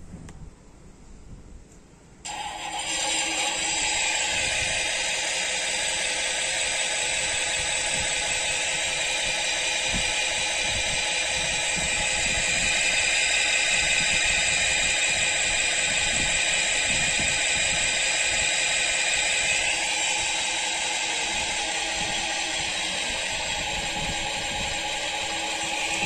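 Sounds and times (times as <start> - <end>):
simulated boat engine chugging: 2.3 - 26.0.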